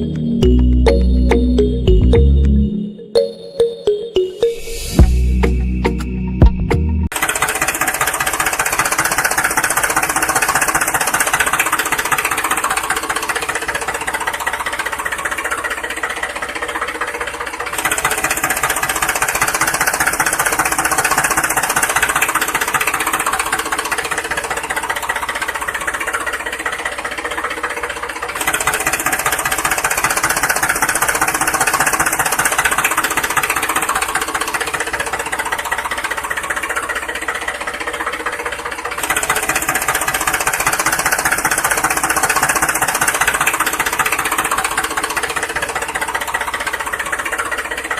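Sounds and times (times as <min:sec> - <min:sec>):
engine with knocking rattle: 0:07.1 - 0:47.9.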